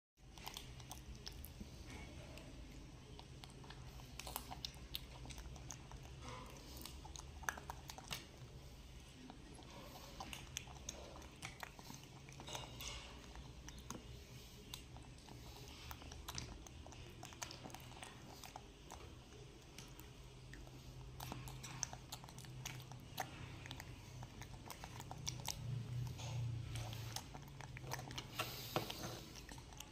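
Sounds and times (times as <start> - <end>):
wet smacking eating sounds: 0.2 - 29.9.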